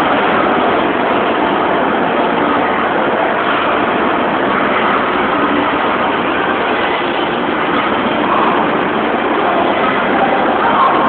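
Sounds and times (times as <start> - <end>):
small amusement train running on track: 0.0 - 11.0.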